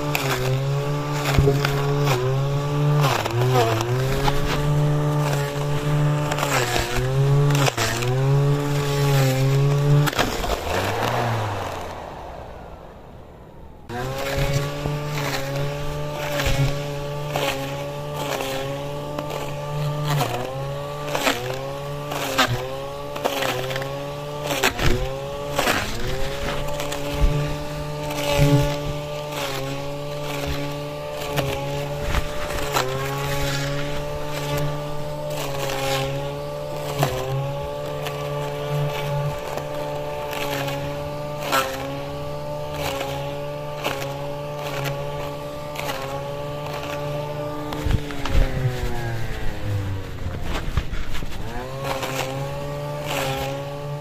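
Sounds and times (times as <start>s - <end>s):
string trimmer engine cutting grass: 0.0s - 54.0s.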